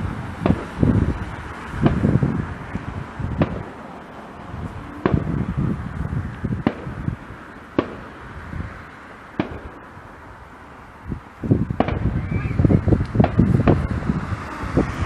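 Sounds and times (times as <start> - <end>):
fireworks bangs: 0.0 - 10.3, 11.5 - 15.0.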